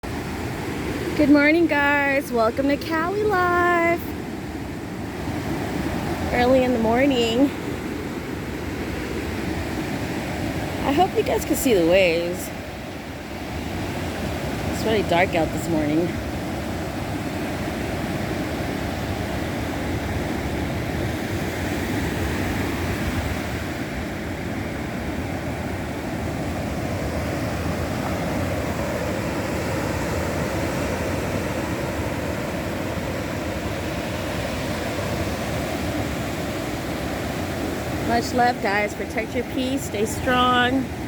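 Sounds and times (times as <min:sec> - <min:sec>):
ocean surf breaking: 0:00.1 - 0:41.0.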